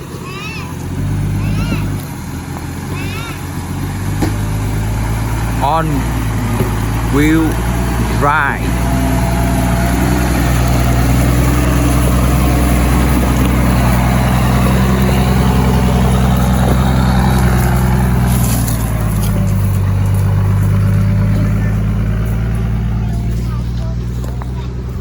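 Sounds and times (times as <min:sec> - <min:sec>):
car engine running loud: 0:00.0 - 0:25.0.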